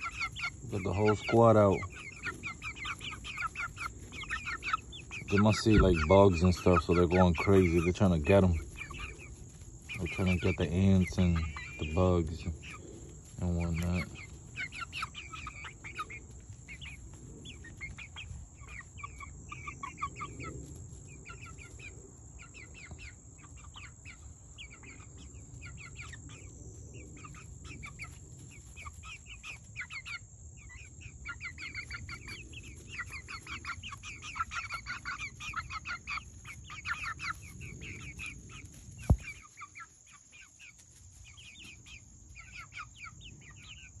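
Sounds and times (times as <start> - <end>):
chickens clucking and peeping: 0.0 - 44.0.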